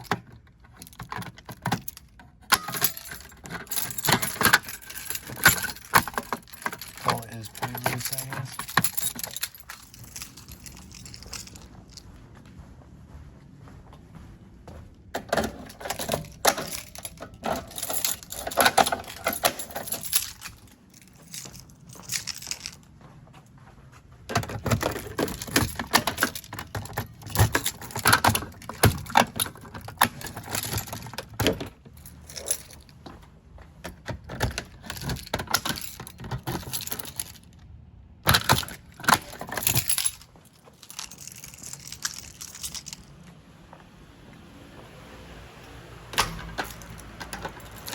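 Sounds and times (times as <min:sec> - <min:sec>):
keys jangling: 0:00.0 - 0:12.1, 0:15.2 - 0:22.9, 0:24.3 - 0:33.2, 0:33.8 - 0:43.3, 0:46.2 - 0:47.9.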